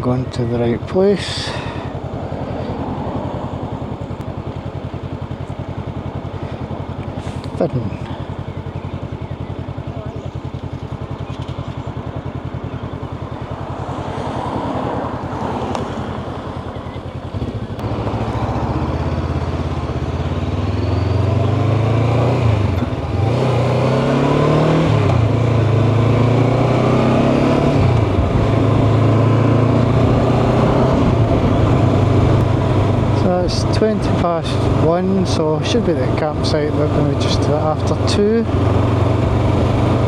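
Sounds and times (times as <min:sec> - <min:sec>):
motorcycle accelerating through gears: 0:00.0 - 0:40.0
motorcycle engine idling: 0:00.0 - 0:40.0.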